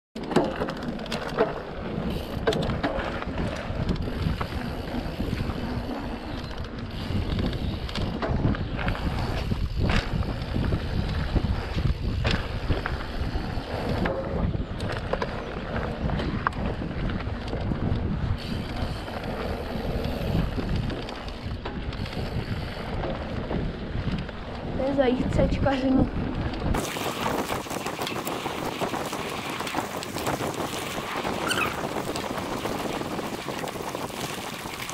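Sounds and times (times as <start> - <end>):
cables clicking against bike frame: 0.2 - 26.8, 27.4 - 34.9
mountain bike riding on dirt trail: 0.2 - 34.9
wind on microphone: 1.8 - 34.9.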